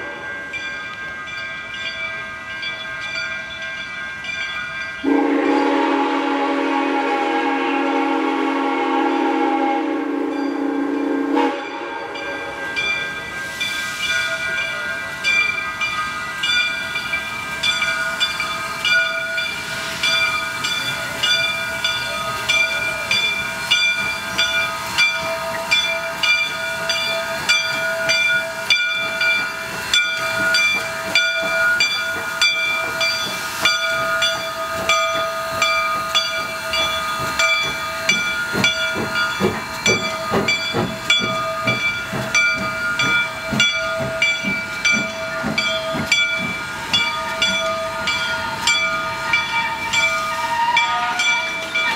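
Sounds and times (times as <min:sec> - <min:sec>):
steam locomotive hissing steam: 0:05.0 - 0:51.9.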